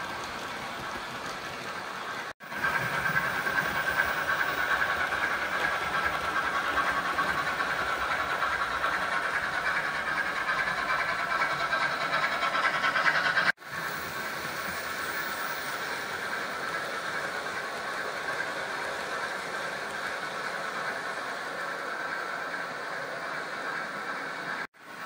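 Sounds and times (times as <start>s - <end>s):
model train motors whirring: 0.0s - 24.7s.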